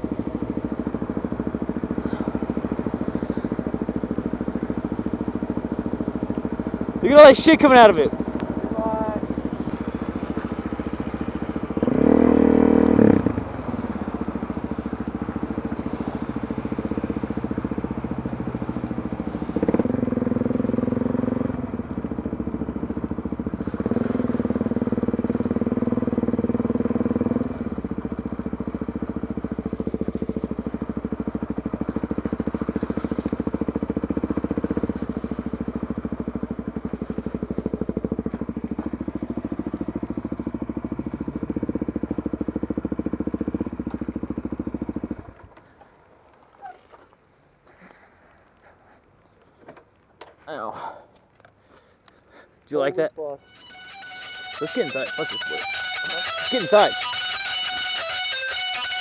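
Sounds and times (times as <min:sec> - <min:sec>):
motorcycle engine revving: 0:00.0 - 0:47.1, 0:53.4 - 0:59.0.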